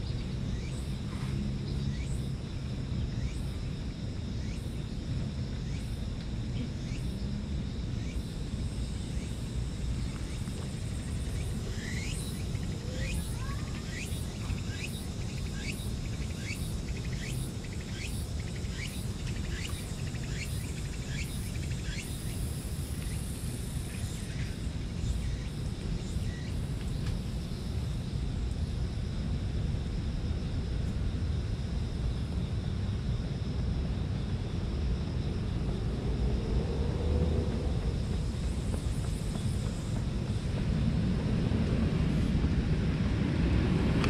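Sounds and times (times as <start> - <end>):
low outdoor rumble: 0.0 - 21.1, 22.4 - 44.0.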